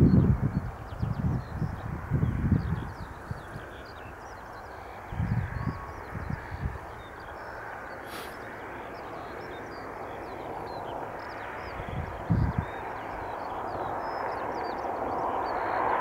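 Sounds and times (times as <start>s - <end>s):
small birds chirping: 0.0s - 16.0s
wind buffeting microphone: 0.0s - 16.0s.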